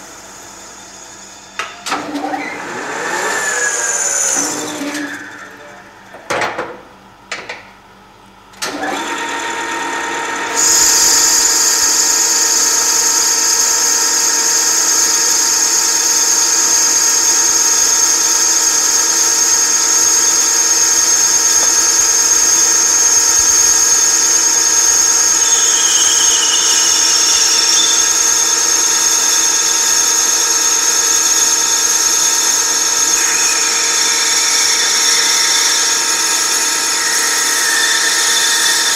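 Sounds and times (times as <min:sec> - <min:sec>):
high-pitched whine: 0:00.0 - 0:01.9, 0:02.8 - 0:06.3, 0:10.5 - 0:38.9
lathe hum: 0:00.0 - 0:06.2, 0:08.7 - 0:38.9.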